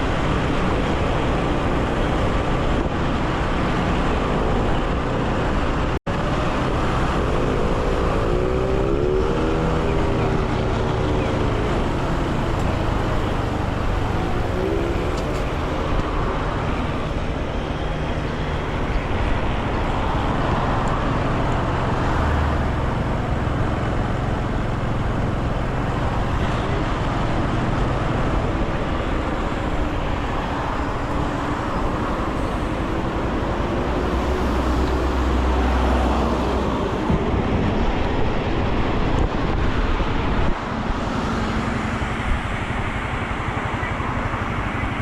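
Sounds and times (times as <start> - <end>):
wind and road noise: 0.0 - 45.0.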